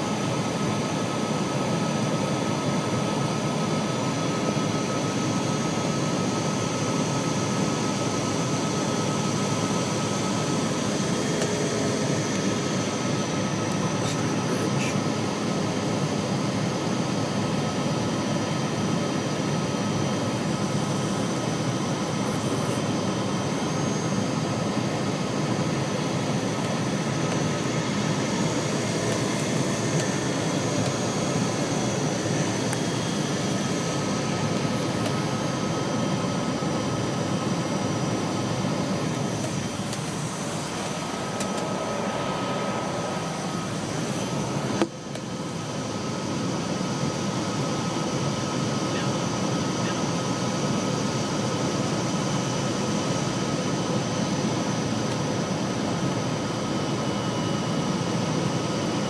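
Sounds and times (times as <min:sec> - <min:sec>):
jet engine cabin rush: 0:00.0 - 0:59.0
thin steady whine: 0:00.0 - 0:59.0.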